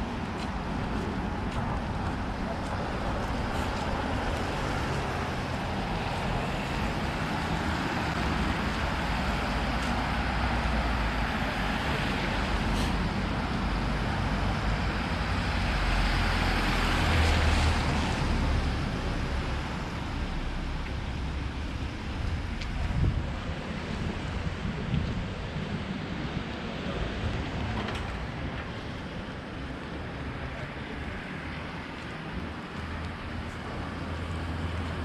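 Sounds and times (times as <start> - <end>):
street traffic passing: 0.0 - 35.0.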